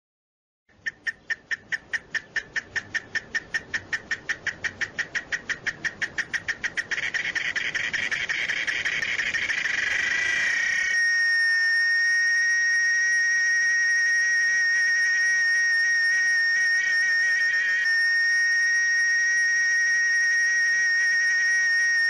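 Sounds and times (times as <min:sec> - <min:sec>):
cicada singing: 0:00.7 - 0:22.0.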